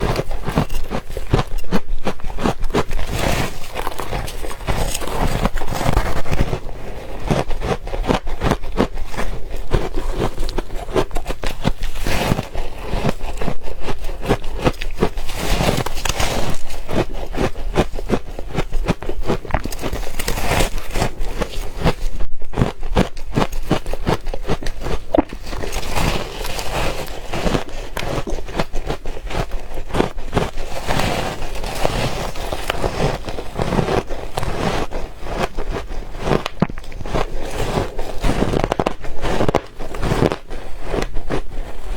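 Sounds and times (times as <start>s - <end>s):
crushed ice being chewed: 0.0s - 41.9s.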